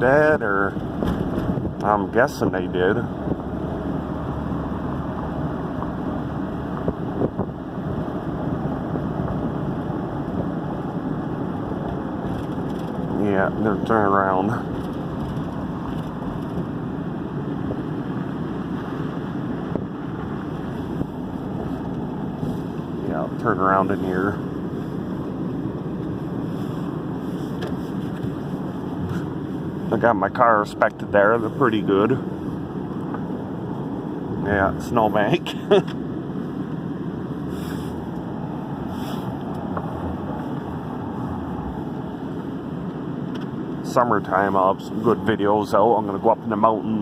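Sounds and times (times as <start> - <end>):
car driving on snowy street: 0.0 - 47.0.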